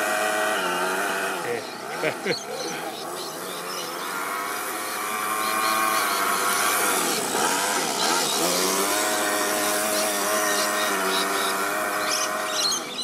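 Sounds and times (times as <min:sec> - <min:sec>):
model car engine driving past: 0:00.0 - 0:13.0.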